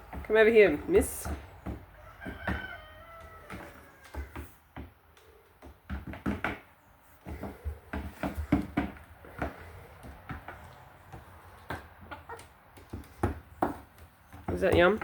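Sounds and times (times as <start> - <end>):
chicken pecking taps: 1.2 - 6.6, 7.2 - 15.0.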